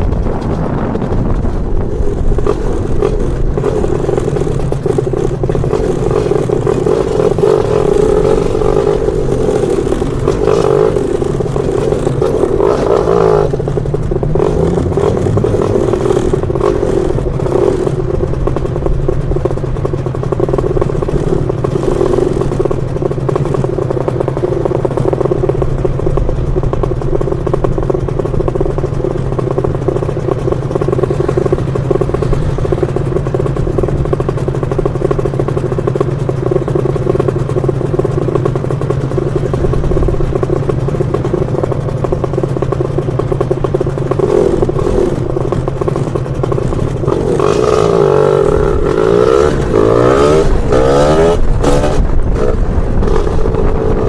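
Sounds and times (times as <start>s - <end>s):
scooter engine running: 0.0s - 54.0s.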